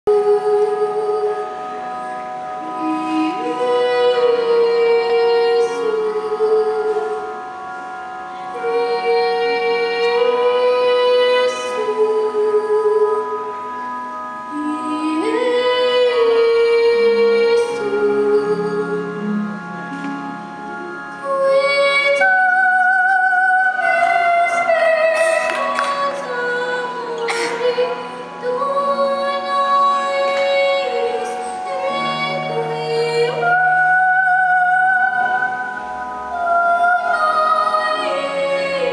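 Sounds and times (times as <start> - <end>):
girl singing into a microphone: 0.1 - 1.5, 2.6 - 7.4, 8.5 - 13.6, 14.5 - 19.2, 21.2 - 38.9
sustained instrumental backing: 0.1 - 38.9.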